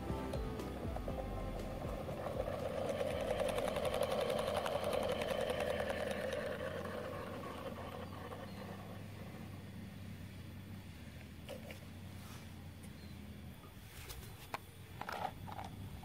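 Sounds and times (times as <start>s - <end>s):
small motor buzzing: 0.0s - 13.6s.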